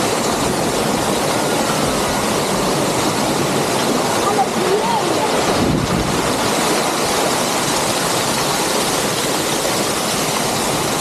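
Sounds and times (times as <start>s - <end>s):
water cascading into fountain: 0.0s - 11.0s.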